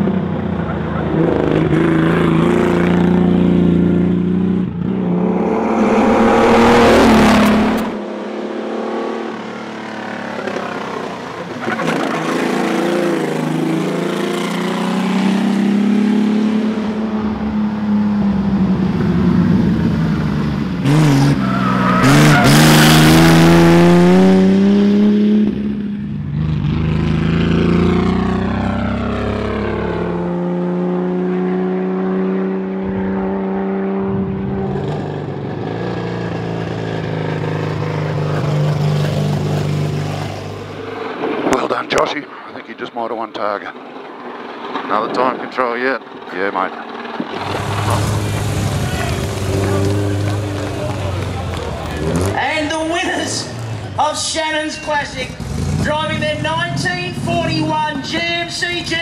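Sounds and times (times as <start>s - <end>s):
rally car engine revving: 0.0s - 42.4s, 43.0s - 54.1s, 55.2s - 58.2s.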